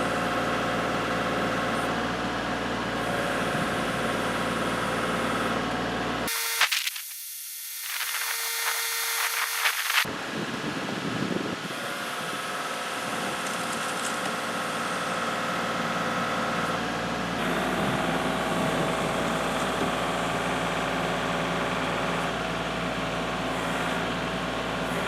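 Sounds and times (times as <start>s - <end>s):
tractor diesel engine running: 0.0s - 6.3s, 10.0s - 25.0s.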